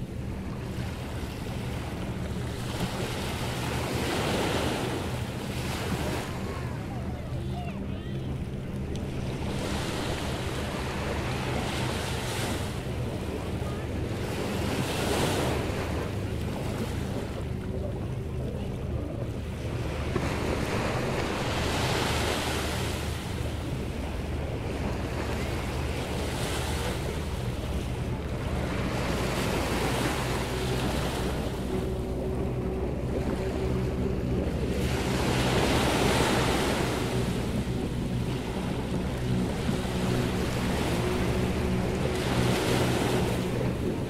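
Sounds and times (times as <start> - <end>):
waves breaking on beach: 0.0 - 44.0.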